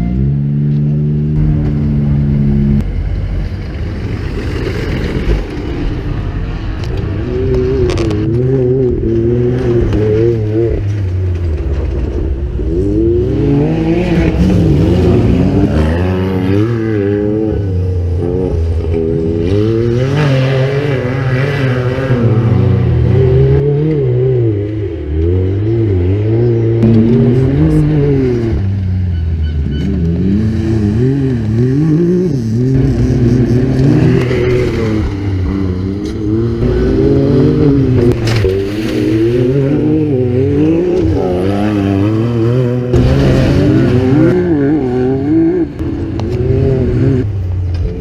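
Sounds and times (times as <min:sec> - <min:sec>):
buggy engines revving: 0:00.0 - 0:48.0.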